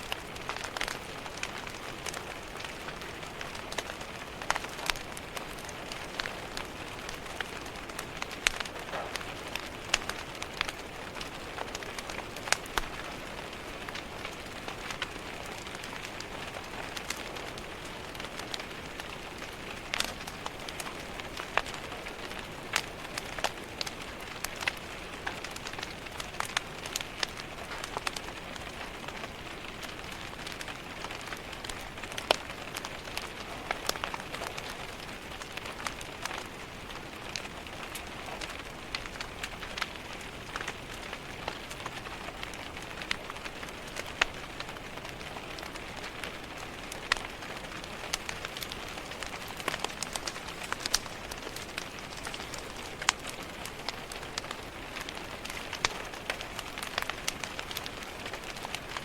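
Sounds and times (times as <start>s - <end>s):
rain pattering on window: 0.0s - 59.0s
wood fire crackling: 0.0s - 59.0s.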